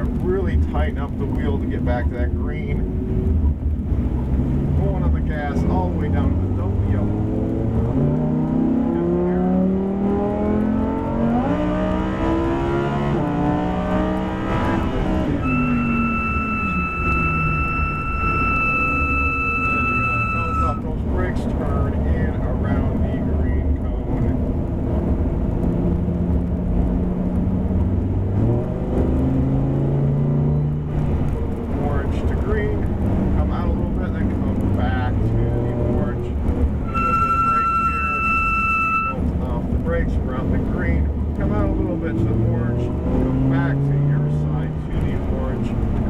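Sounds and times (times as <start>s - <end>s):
car engine under full throttle: 0.0s - 46.0s.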